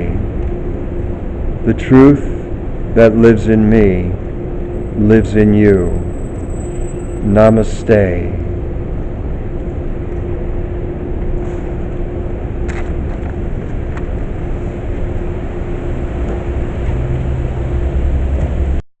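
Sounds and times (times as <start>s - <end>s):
low rumble of traffic: 0.0s - 18.8s
steady machine hum: 0.0s - 18.8s.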